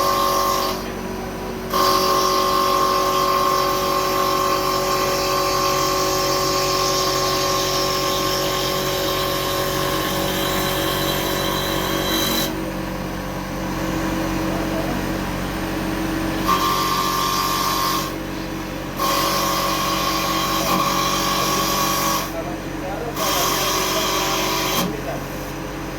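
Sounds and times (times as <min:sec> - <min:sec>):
machine steady whine: 0:00.0 - 0:25.9.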